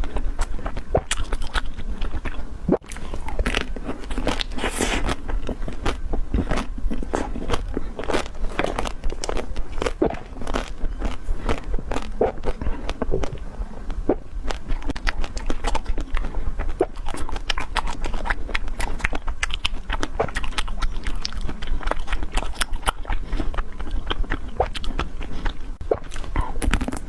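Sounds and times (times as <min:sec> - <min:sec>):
biting and chewing ice cream bar: 0:00.0 - 0:27.0.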